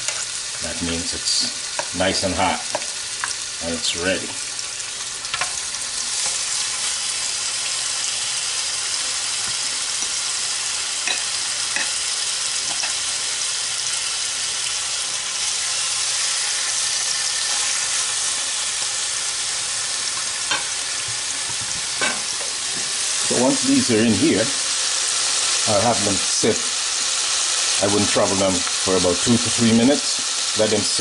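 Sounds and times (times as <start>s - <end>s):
meat sizzling in a pot: 0.0s - 31.0s.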